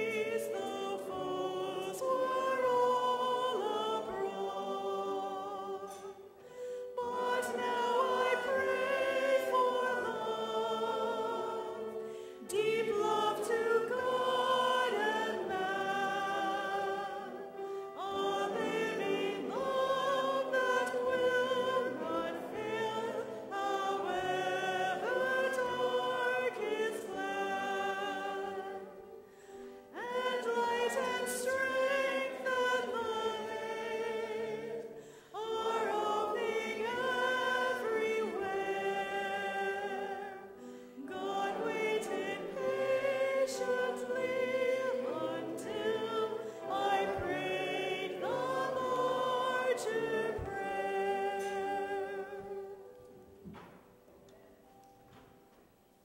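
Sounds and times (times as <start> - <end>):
congregation singing a hymn: 0.0 - 55.5.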